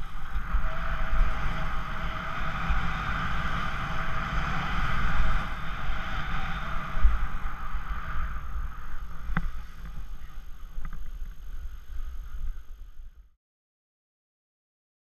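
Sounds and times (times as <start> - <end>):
skis sliding over snow: 0.0 - 13.0
wind rumbling on microphone: 0.0 - 13.4.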